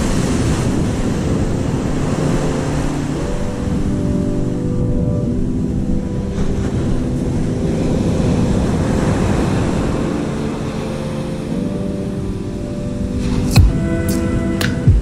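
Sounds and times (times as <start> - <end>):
soft music with held chords: 0.0 - 15.0
wind on microphone: 0.0 - 15.0.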